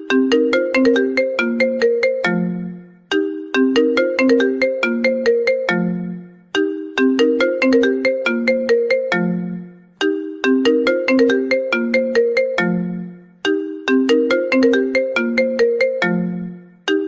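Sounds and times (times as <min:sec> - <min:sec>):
phone ringtone melody: 0:00.0 - 0:17.0.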